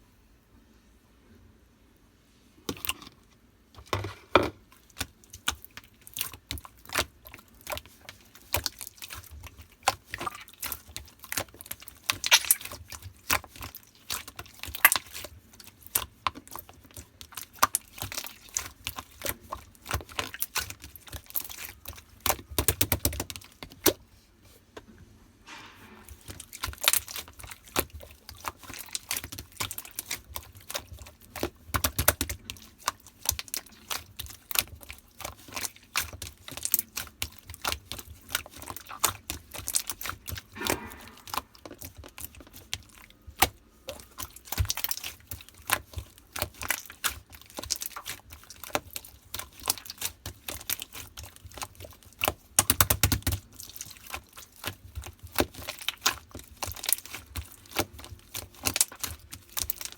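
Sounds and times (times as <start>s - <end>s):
slime crackling: 4.7s - 24.0s, 26.0s - 59.9s
slime squished by hand: 4.7s - 24.0s, 25.6s - 59.9s.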